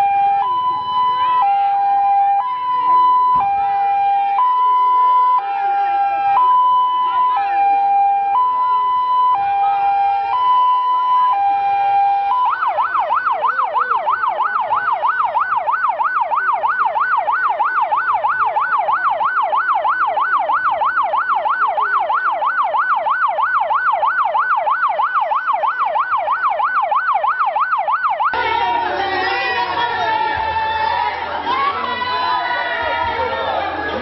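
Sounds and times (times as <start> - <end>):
electronic vehicle siren: 0.0 - 34.0.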